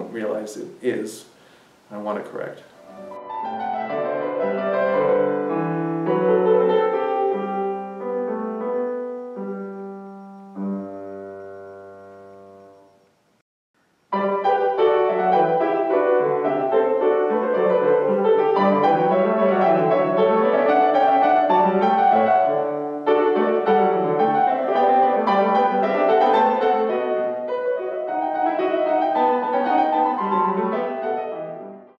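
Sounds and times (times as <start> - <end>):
classical piano music: 2.8 - 13.1, 14.1 - 32.0.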